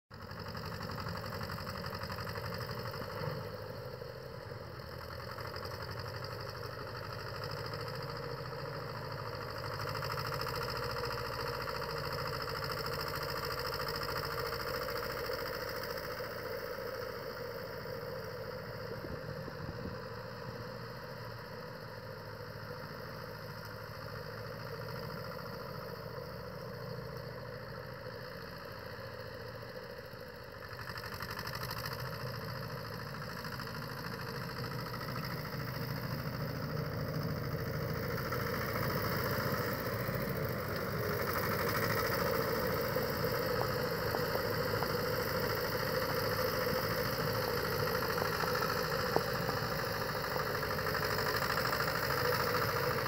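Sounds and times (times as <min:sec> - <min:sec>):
snow vehicle engine running: 0:00.1 - 0:53.0.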